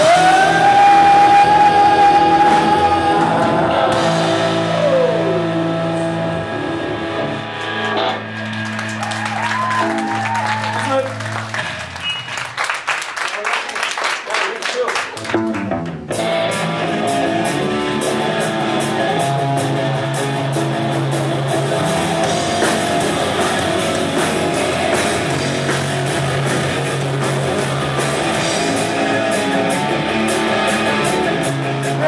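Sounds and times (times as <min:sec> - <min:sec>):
rock band playing: 0:00.0 - 0:12.9, 0:15.0 - 0:32.0.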